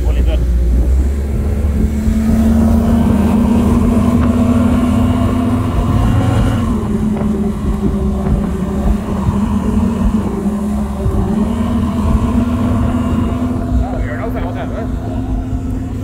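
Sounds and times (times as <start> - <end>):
outboard motor running: 0.0 - 16.0
water rushing in wake: 0.0 - 16.0.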